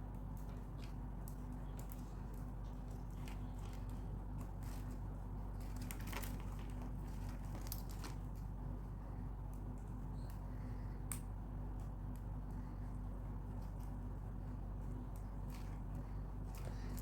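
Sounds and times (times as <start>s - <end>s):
plastic wire crackling and clicking: 0.0s - 8.5s, 9.4s - 14.1s, 14.8s - 17.0s
steady low hum: 0.0s - 17.0s.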